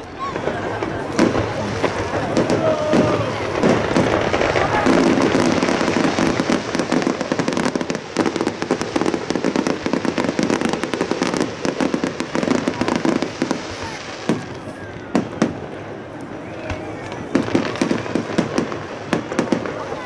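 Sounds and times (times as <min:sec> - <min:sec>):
fireworks crackling and popping: 0:00.0 - 0:20.0
fireworks sharp bangs: 0:00.0 - 0:20.0.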